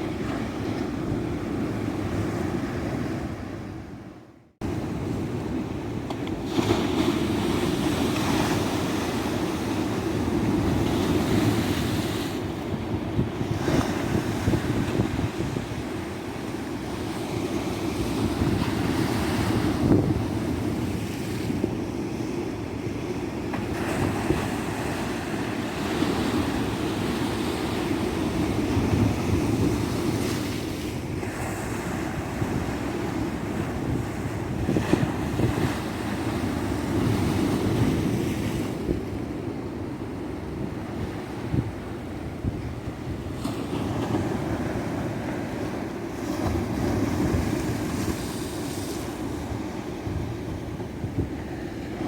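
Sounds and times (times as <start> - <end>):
wind buffeting microphone: 4.6 - 21.8, 23.8 - 52.0.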